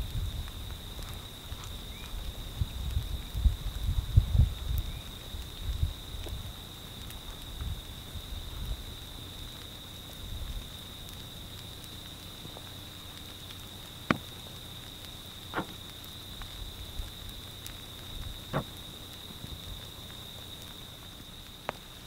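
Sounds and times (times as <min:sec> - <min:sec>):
lava crust cracking: 0:00.0 - 0:22.0.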